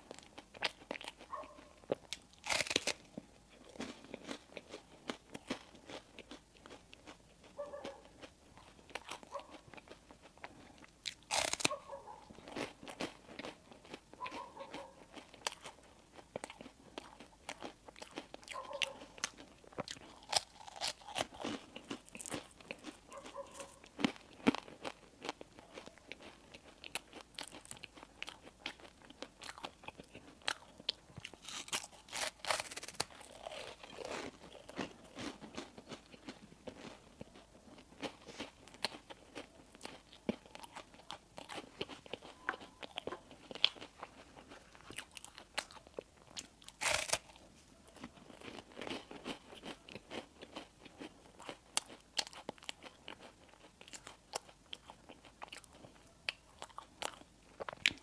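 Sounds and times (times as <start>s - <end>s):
person biting and chewing bread: 0.0s - 58.0s.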